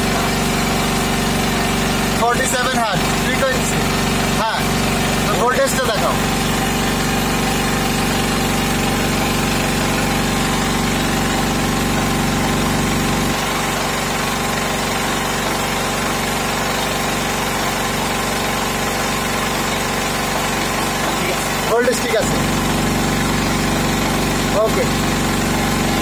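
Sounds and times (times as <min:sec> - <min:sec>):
generator engine drone: 0:00.0 - 0:26.0.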